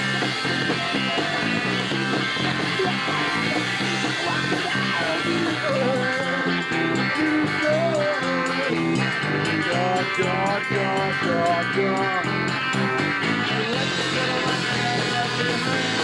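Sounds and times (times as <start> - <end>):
electric guitars: 0.0 - 16.0
rock band playing loudly: 0.0 - 16.0.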